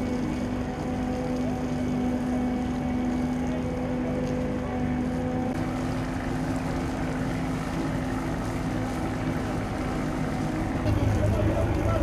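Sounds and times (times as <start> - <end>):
boat engine droning: 0.0 - 12.0
deck machinery: 0.0 - 12.0.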